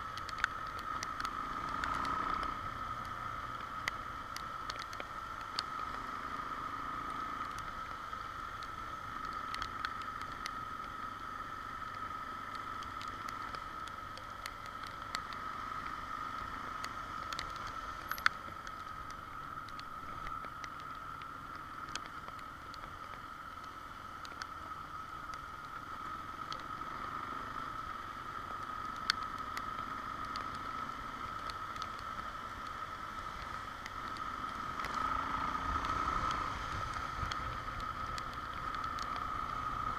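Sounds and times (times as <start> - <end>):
sharp ticks: 0.0 - 39.9
wind and road noise: 0.0 - 39.9.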